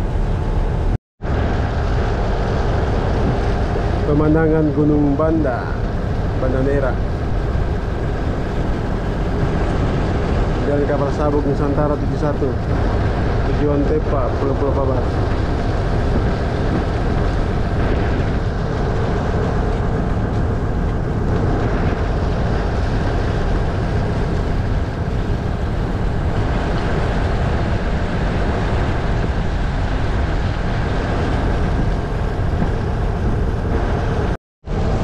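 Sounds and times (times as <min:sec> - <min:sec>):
ship engine drone: 0:00.0 - 0:35.0
water noise: 0:00.0 - 0:35.0
wind: 0:00.0 - 0:35.0.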